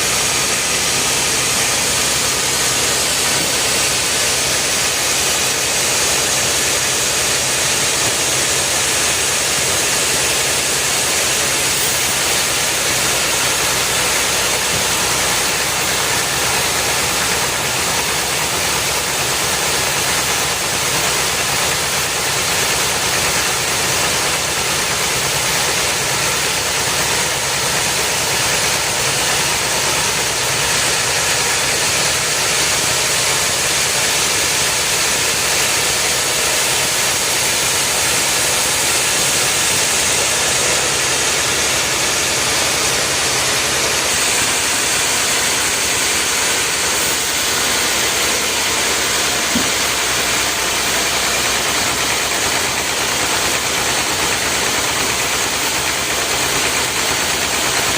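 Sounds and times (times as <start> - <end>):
wood-cutting machinery running: 0.0 - 57.9.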